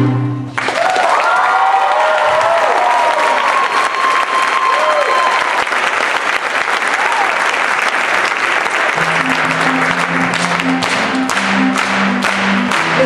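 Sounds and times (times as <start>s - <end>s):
audience clapping: 0.5s - 13.0s.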